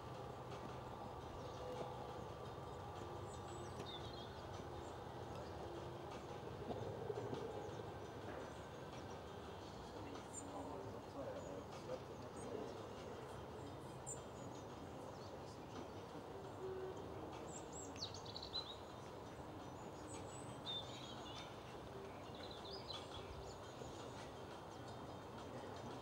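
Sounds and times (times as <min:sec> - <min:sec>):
faint outdoor background noise: 0:00.0 - 0:26.0
small birds chirping: 0:00.2 - 0:16.6, 0:17.4 - 0:26.0.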